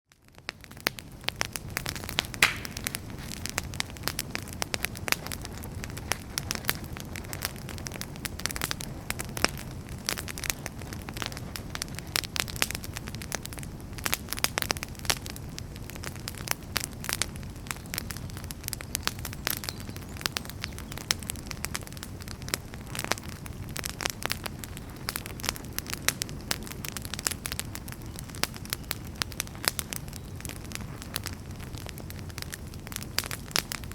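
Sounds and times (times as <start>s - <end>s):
campfire crackling and popping: 0.1s - 33.9s.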